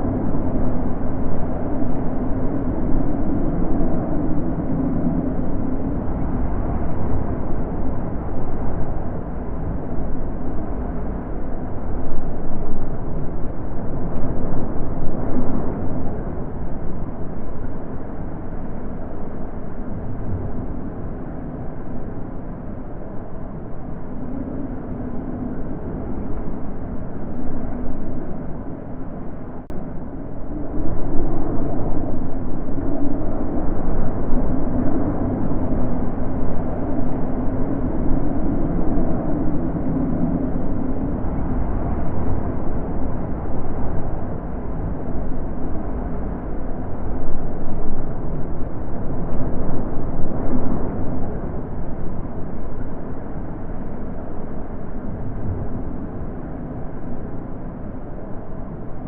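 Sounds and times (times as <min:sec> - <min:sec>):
wind blowing: 0:00.0 - 0:59.0.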